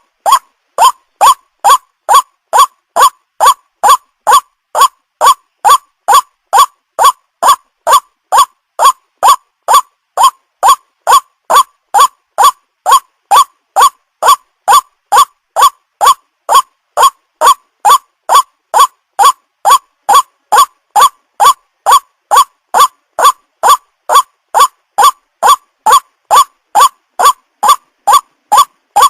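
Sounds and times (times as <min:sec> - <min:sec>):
waterhen kwak call: 0:00.2 - 0:29.0.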